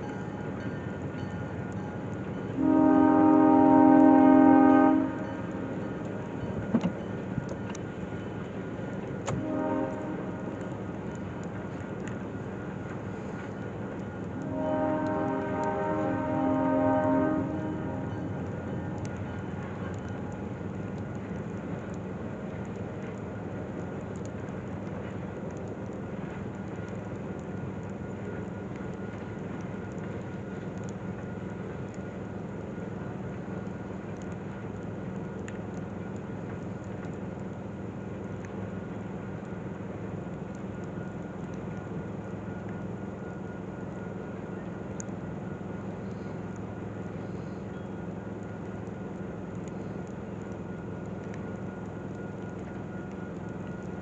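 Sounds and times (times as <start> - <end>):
faint high whine: 0.0 - 54.0
low engine drone: 0.0 - 54.0.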